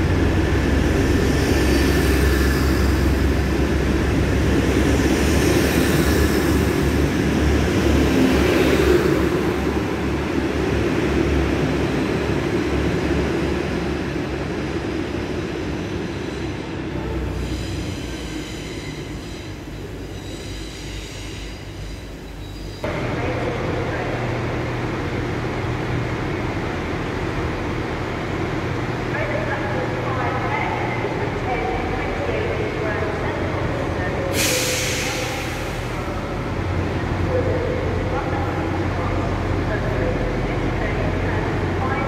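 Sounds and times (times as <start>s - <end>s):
diesel train rumbling: 0.0s - 42.0s.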